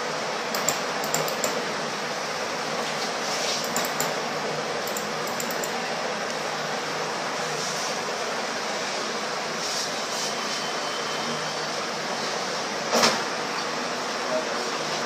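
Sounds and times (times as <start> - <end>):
steady fan hiss: 0.0 - 15.0.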